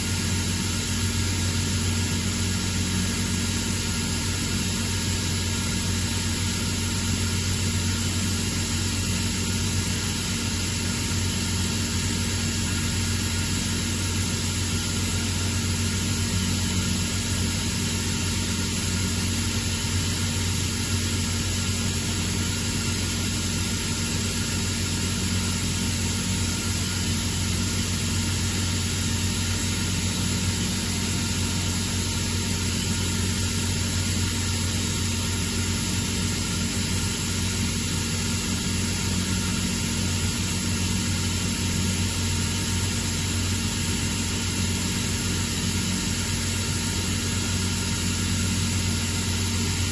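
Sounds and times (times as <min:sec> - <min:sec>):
air compressor running: 0:00.0 - 0:49.9.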